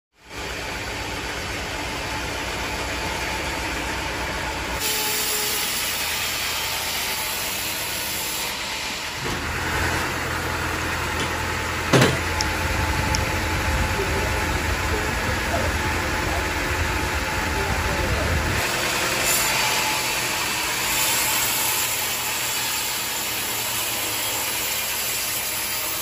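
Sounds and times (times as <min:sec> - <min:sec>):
engine running: 0:00.2 - 0:24.6.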